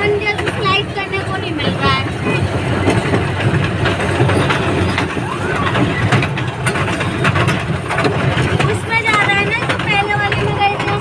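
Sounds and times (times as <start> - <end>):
train rattles and clicks: 0.0 - 11.0
train running noise: 0.0 - 11.0.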